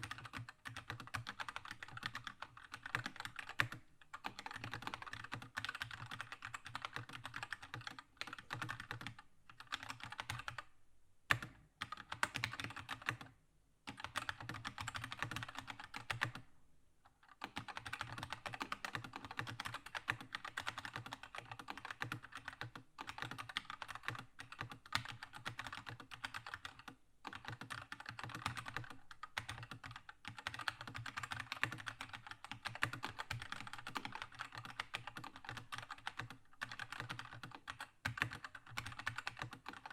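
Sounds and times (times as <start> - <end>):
mechanical keyboard typing: 0.0 - 10.7, 11.3 - 13.3, 13.9 - 16.4, 17.2 - 39.9.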